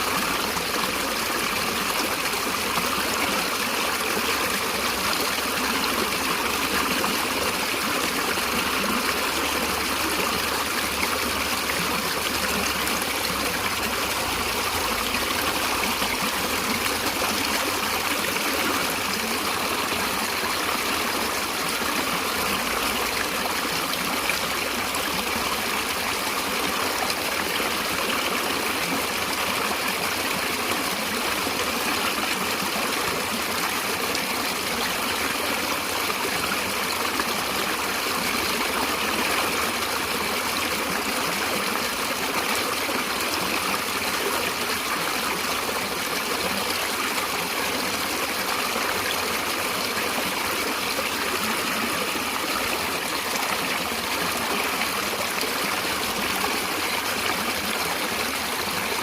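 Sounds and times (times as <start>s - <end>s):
stream of running water: 0.0s - 59.0s.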